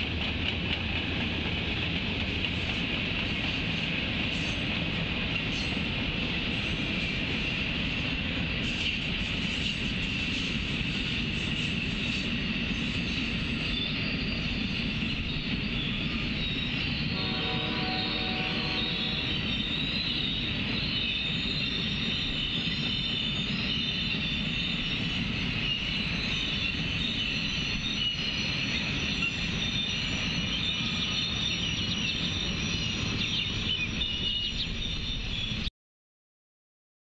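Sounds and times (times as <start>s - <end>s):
train wheels rumbling on rails: 0.0s - 35.7s.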